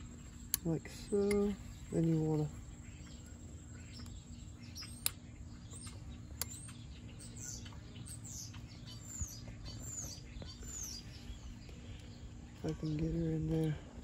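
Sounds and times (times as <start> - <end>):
birds chirping: 0.0 - 14.0
low steady hum: 0.0 - 14.0.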